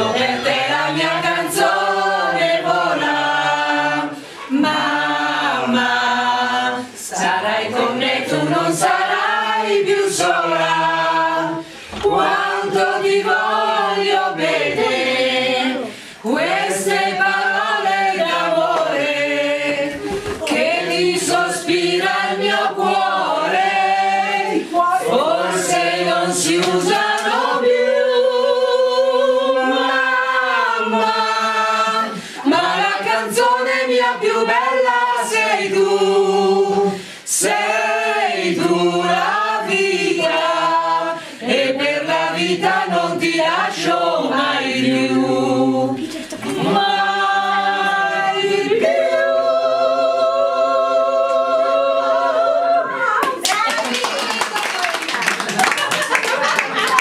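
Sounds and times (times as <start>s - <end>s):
group singing a cappella: 0.0s - 53.2s.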